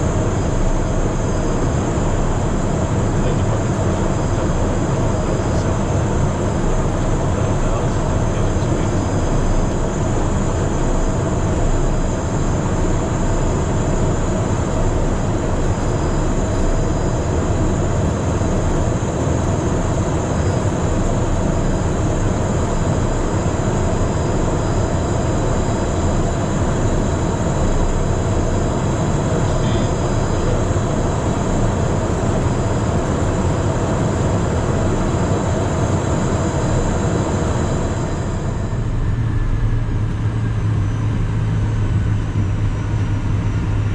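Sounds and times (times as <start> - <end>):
jet engine rumble and hiss: 0.0 - 43.9
steady high whine: 0.0 - 43.9.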